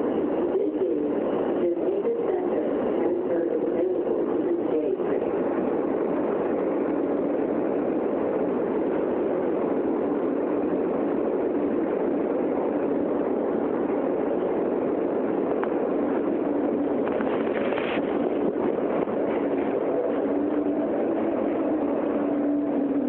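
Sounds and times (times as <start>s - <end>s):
subway car rumble: 0.0s - 23.0s.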